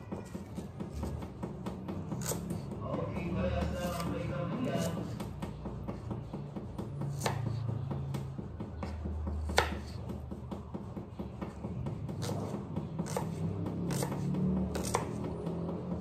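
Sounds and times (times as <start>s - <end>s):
knife chopping on cutting board: 0.0s - 16.0s.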